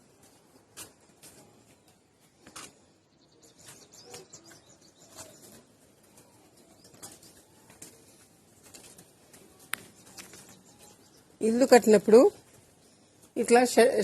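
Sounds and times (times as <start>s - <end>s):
soft clicks and rustles: 0.0s - 11.3s.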